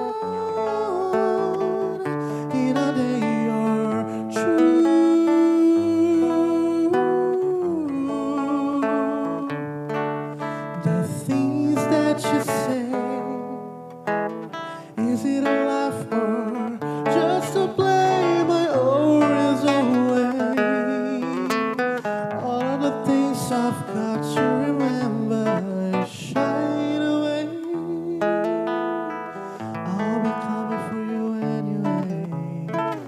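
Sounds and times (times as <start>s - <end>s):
person singing wordless held notes: 0.0s - 9.7s, 10.4s - 13.7s, 14.7s - 33.0s
acoustic guitar music: 0.0s - 33.0s.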